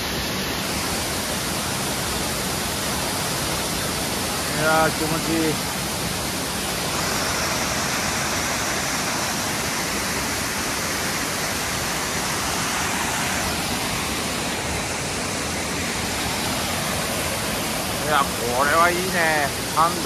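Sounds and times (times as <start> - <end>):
waterfall rushing into pool: 0.0 - 20.0.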